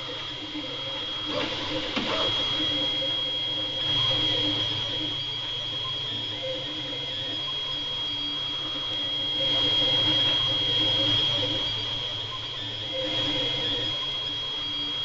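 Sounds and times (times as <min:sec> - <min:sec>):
cooling fans whining: 0:00.0 - 0:15.0.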